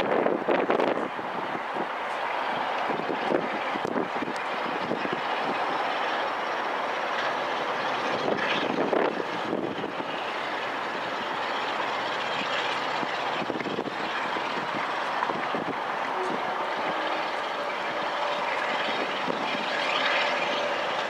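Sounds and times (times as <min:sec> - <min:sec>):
diesel locomotive engine working: 0:00.0 - 0:21.0.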